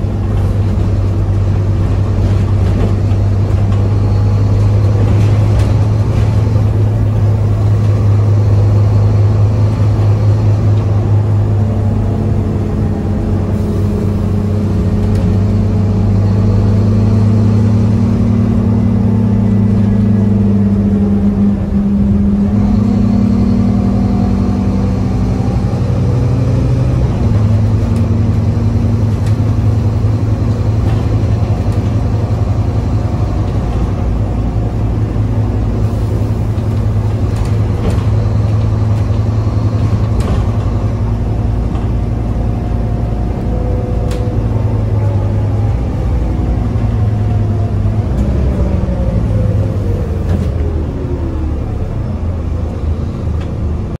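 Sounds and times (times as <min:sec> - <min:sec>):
bus engine drone: 0:00.0 - 0:54.0
drivetrain whine: 0:00.0 - 0:54.0.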